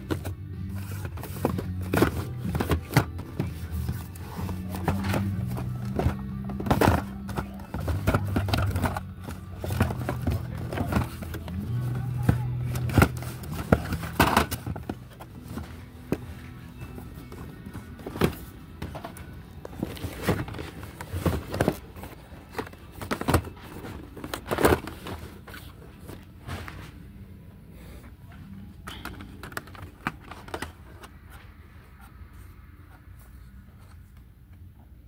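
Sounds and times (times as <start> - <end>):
objects being handled: 0.0 - 27.2, 28.3 - 34.7.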